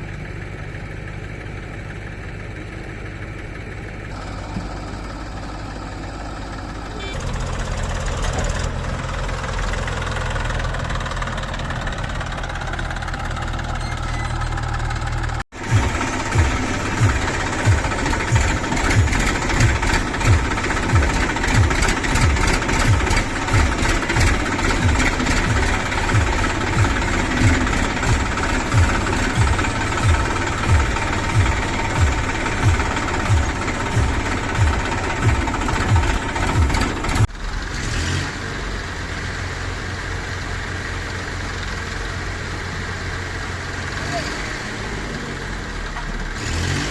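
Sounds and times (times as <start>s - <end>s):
diesel machine engine running: 0.0s - 46.9s.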